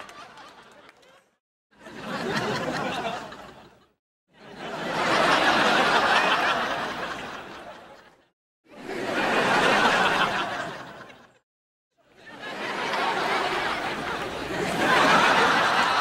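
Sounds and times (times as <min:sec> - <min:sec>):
studio audience laughter: 0:00.0 - 0:11.4, 0:12.1 - 0:16.0.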